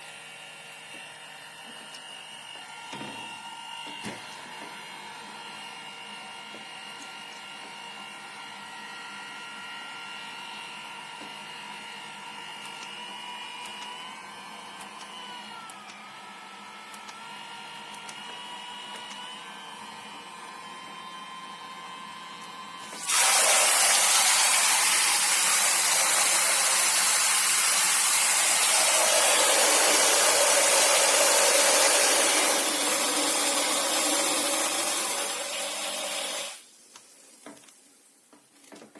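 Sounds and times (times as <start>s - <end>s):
electric pump whine: 0.0s - 36.6s.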